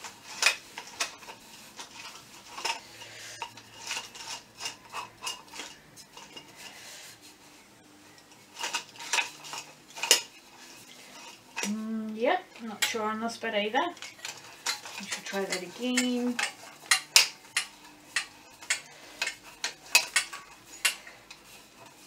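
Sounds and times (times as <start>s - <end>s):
metal tubes clinking and tapping: 0.0s - 6.8s, 8.2s - 22.0s
metal tubes scraping: 0.0s - 22.0s.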